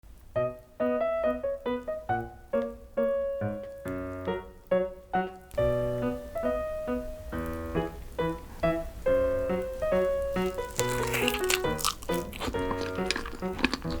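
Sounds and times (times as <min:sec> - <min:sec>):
piano music: 0:00.1 - 0:14.0.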